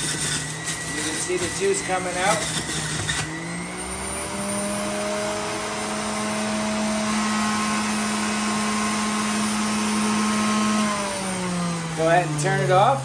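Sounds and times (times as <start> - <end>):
juicer motor hum and whine: 0.0 - 13.0.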